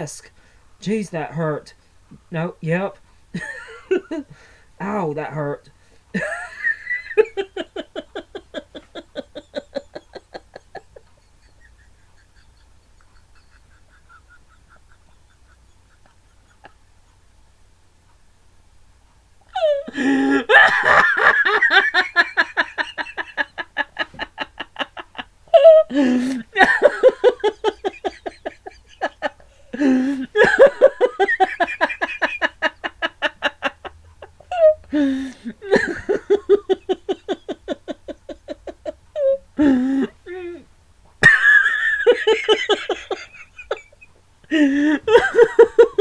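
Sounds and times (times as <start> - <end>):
man laughing hard: 3.4 - 5.5, 6.2 - 16.9, 19.6 - 40.6, 41.2 - 46.0.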